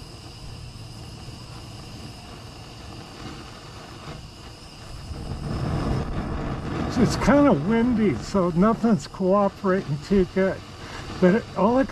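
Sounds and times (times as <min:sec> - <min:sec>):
propane torch burning: 0:00.0 - 0:11.9
wind rumbling on microphone: 0:00.0 - 0:11.9.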